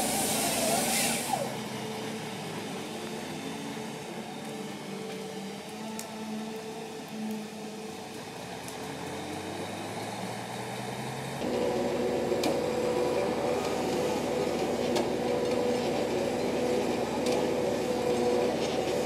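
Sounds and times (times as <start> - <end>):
diesel engine and hydraulics: 0.0 - 19.0
steady mechanical hum of cable line: 0.0 - 19.0.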